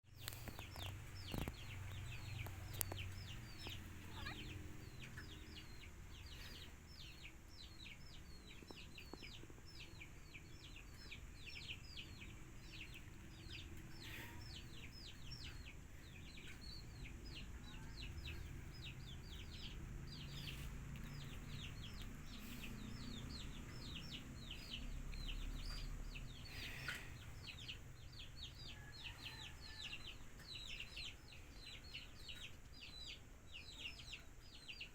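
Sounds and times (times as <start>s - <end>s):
bird chirping: 0.1s - 34.9s.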